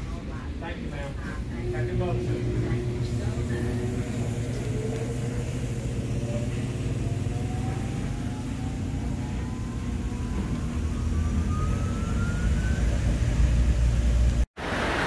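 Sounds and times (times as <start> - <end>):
car wash machinery rumble: 0.0 - 15.0
faint rising whine: 0.8 - 14.5.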